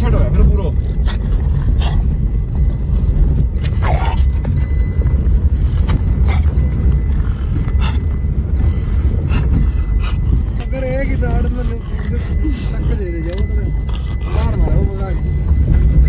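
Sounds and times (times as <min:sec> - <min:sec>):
road rumble: 0:00.0 - 0:16.0
wind buffeting car window: 0:00.0 - 0:16.0.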